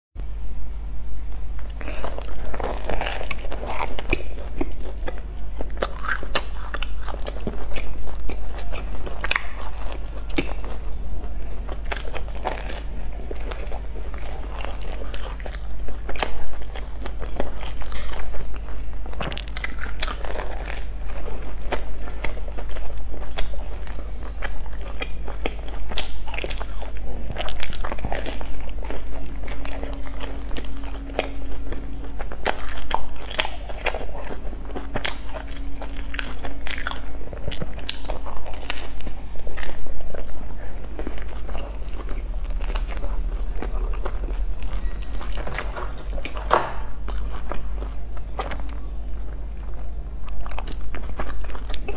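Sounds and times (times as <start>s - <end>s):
steady low hum: 0.2s - 51.9s
crunchy chewing: 1.3s - 51.9s.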